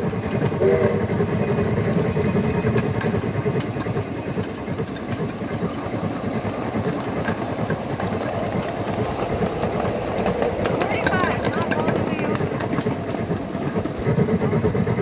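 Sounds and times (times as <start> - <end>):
miniature train rumbling clatter: 0.0 - 15.0.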